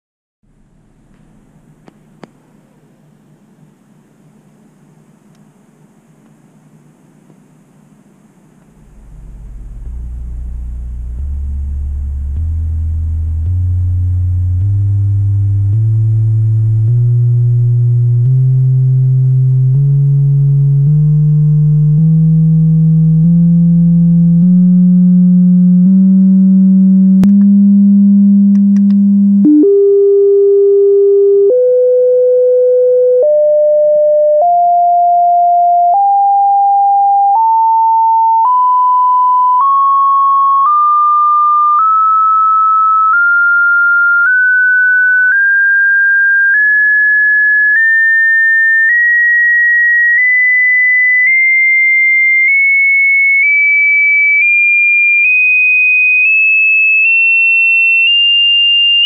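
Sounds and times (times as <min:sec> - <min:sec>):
pure tone stepping up in pitch: 0:08.6 - 0:59.0.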